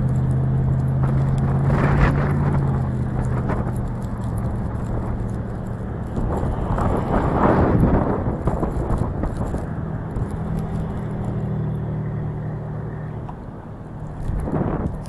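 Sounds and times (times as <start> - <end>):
car engine hum: 0.0 - 15.0
road noise: 0.0 - 15.0
wind buffeting microphone: 0.0 - 15.0.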